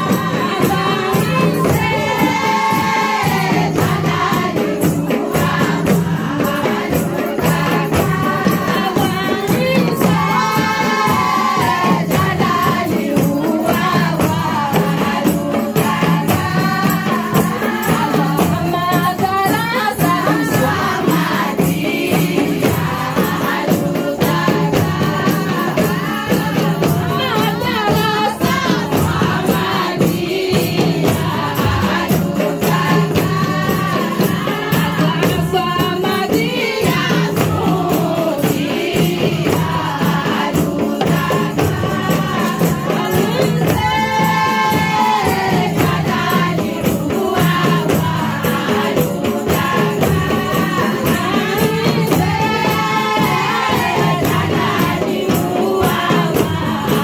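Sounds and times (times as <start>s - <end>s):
drum beating fast rhythm: 0.0s - 57.0s
women and girls singing: 0.0s - 57.0s.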